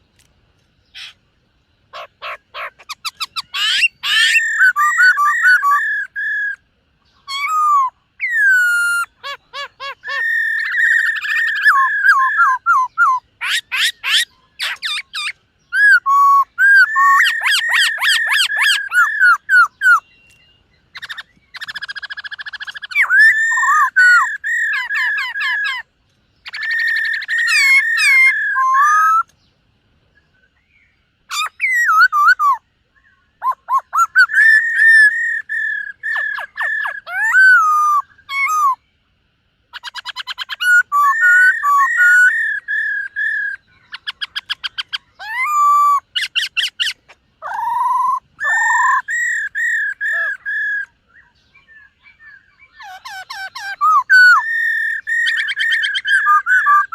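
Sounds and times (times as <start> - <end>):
bird singing whistled phrases: 1.9 - 25.8, 26.4 - 29.3, 30.2 - 38.8, 39.7 - 56.9.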